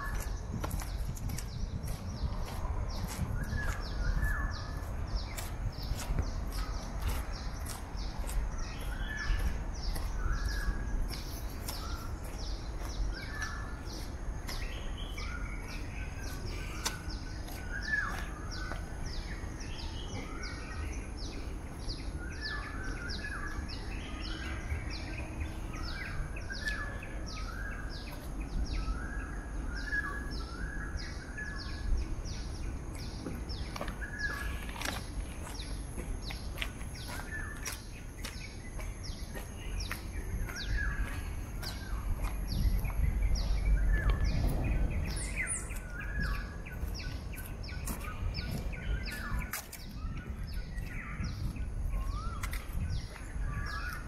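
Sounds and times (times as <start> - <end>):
birds chirping: 0.0 - 54.0
steady low rumble: 0.0 - 54.0.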